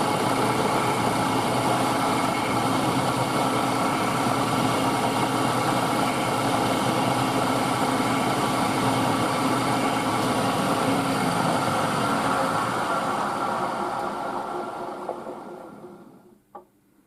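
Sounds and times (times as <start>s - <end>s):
milling machine humming: 0.0s - 16.2s.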